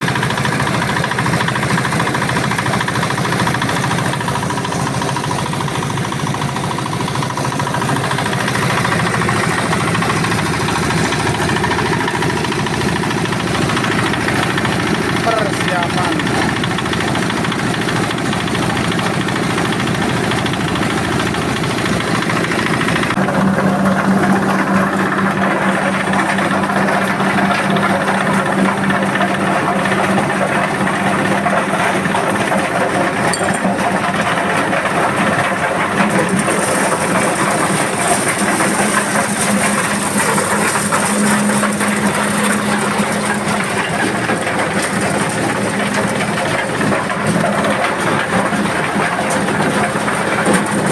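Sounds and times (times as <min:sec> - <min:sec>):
corn sheller machine running: 0:00.0 - 0:50.9.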